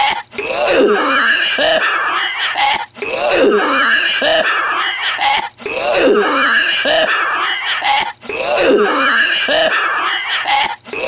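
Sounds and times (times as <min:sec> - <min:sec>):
man coughing and wheezing: 0:00.0 - 0:11.0.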